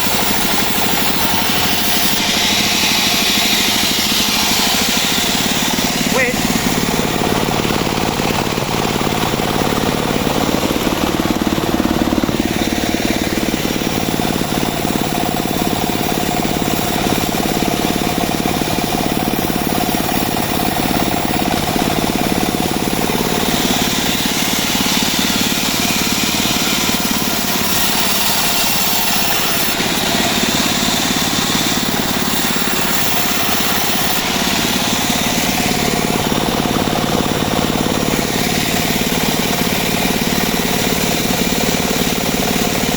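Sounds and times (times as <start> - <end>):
bandsaw sawmill cutting wood: 0.0 - 42.9.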